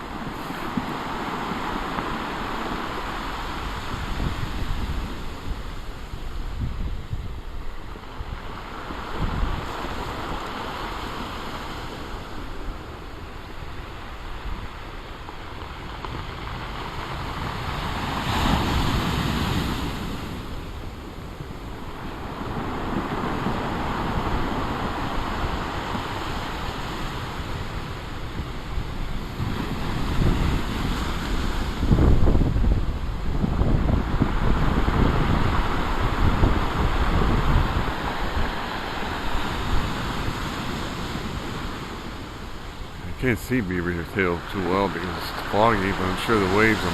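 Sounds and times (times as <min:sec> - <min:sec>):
storm waves breaking on shore: 0:00.0 - 0:46.9
wind buffeting microphone: 0:00.0 - 0:46.9.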